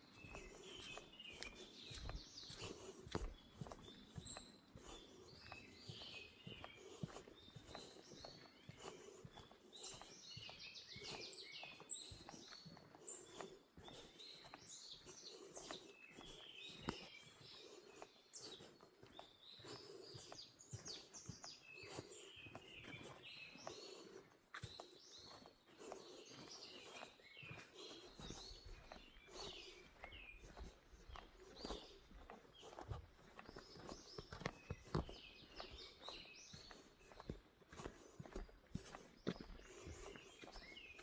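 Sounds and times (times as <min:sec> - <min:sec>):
footsteps on woodland trail: 0:00.0 - 0:41.0
small birds chirping: 0:00.0 - 0:41.0.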